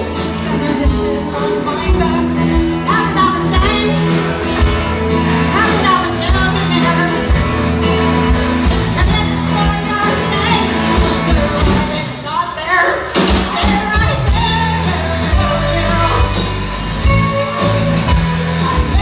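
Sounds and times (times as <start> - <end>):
drum kit beat: 0.0 - 12.3, 12.9 - 19.0
bass guitar: 0.0 - 19.0
electric guitars: 0.0 - 19.0
woman singing: 0.0 - 19.0.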